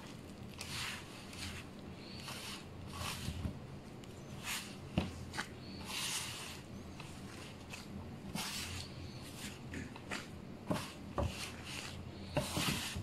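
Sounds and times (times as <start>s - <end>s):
faint steady hum: 0.0s - 13.0s
hands kneading dough: 0.0s - 13.0s.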